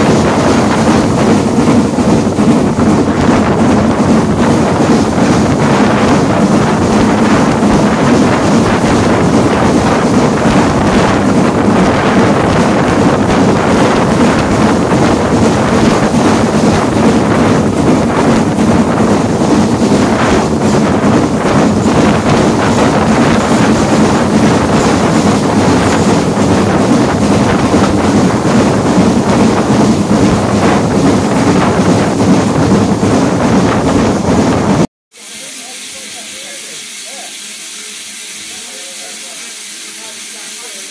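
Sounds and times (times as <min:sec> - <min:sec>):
wind buffeting microphone: 0:00.0 - 0:34.9
train running noise: 0:00.0 - 0:40.9.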